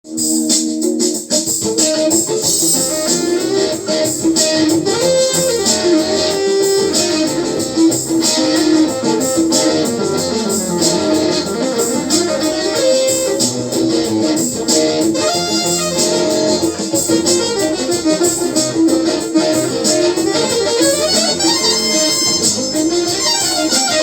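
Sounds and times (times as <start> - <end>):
steady beat: 0.1 - 24.0
plucked guitar-like melody: 1.7 - 24.0.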